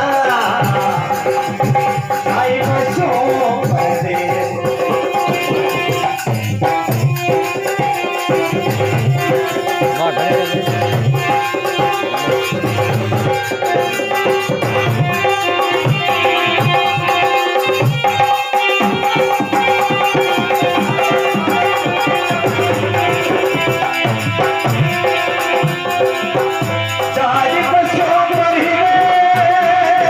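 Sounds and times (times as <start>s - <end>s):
hand cymbals jingling: 0.0s - 27.9s
fast hand drum beat: 0.0s - 30.0s
harmonium holding notes: 0.0s - 30.0s.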